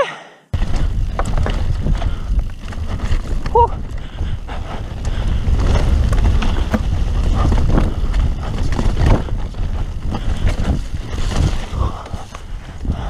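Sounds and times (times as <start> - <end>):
tyres rolling over dirt and stones: 0.6 - 12.9
bike knocking and rattling: 0.6 - 13.0
wind buffeting microphone: 0.6 - 13.0.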